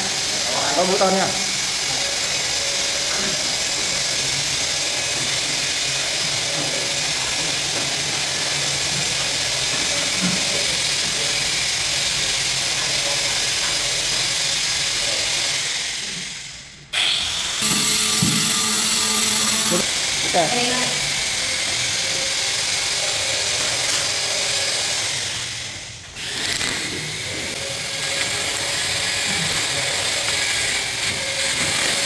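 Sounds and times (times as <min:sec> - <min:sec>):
machine hissing: 0:00.0 - 0:32.0.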